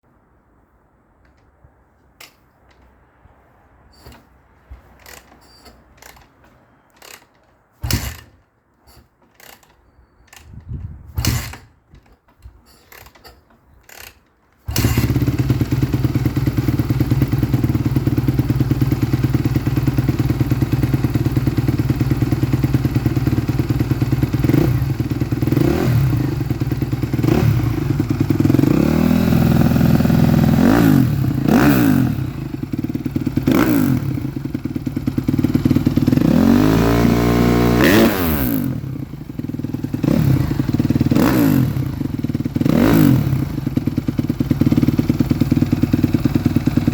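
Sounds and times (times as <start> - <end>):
motorcycle engine starting and running: 3.9 - 46.9.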